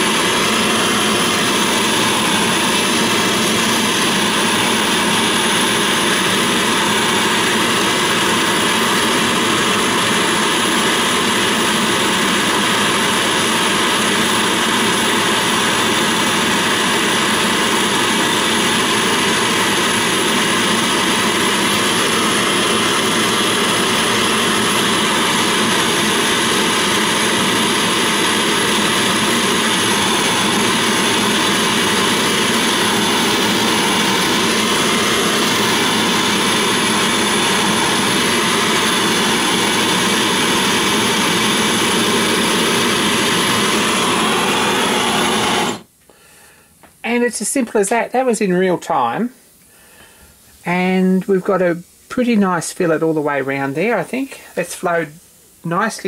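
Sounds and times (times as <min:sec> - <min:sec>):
gas torch flame rushing: 0:00.0 - 0:45.9.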